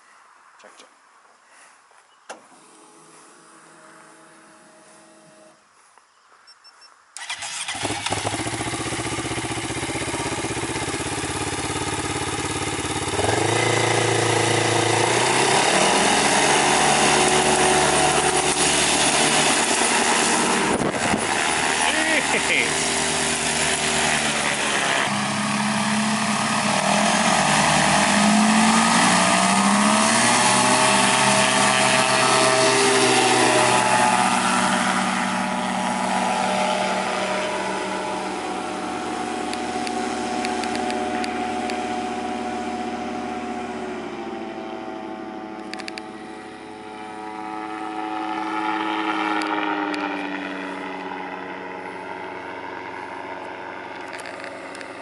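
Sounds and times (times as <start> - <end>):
light aircraft engine and propeller: 2.5 - 5.6, 7.2 - 55.0.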